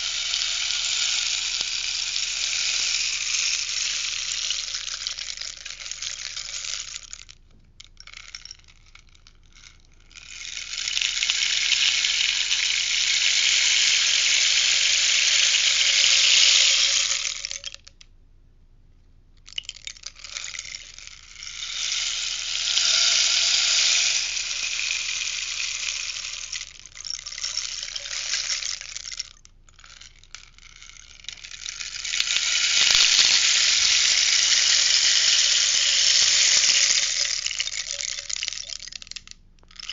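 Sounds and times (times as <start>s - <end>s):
rainstick pebbles cascading: 0.0s - 7.3s, 8.0s - 17.9s, 19.5s - 39.9s.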